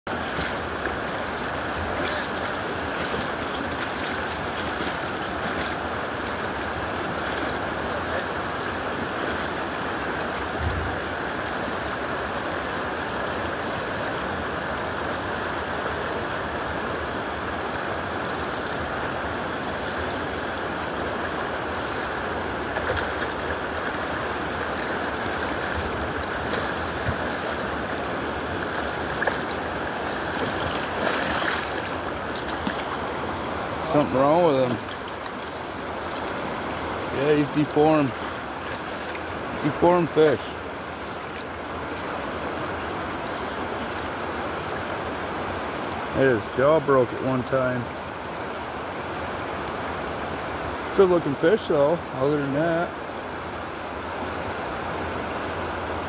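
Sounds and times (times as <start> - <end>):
river rushing over rocks: 0.1 - 56.0.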